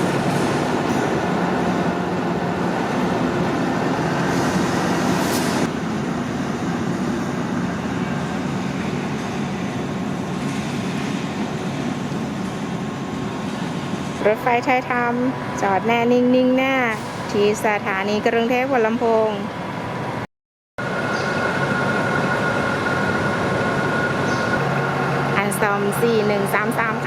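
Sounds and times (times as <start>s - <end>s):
diesel engine humming: 0.0s - 20.1s, 20.8s - 27.0s.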